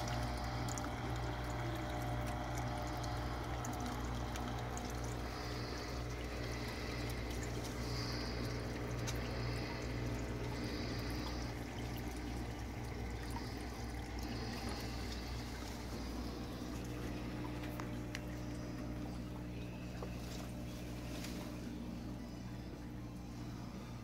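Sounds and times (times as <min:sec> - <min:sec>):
water pouring and splashing: 0:00.0 - 0:22.1
steady low hum: 0:00.0 - 0:24.0.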